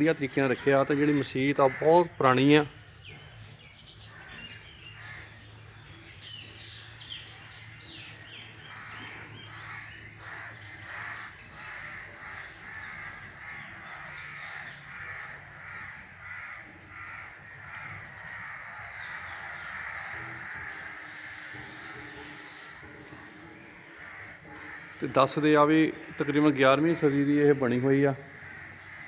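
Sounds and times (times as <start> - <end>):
birds chirping: 0.0 - 29.0
repeated bird calls: 0.0 - 29.0.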